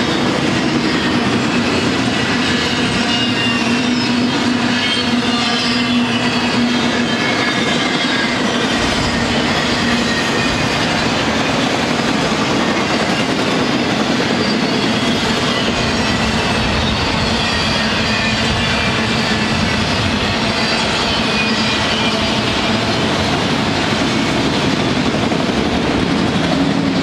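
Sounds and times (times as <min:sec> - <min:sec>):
high-pitched wheel squealing: 0:00.0 - 0:23.3
freight train rumbling and rattling: 0:00.0 - 0:27.0.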